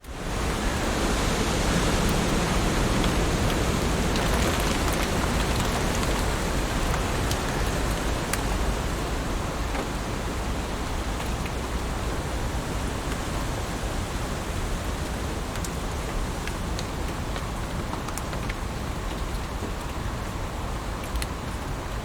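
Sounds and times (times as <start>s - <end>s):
heavy rain on leaves: 0.0s - 22.0s.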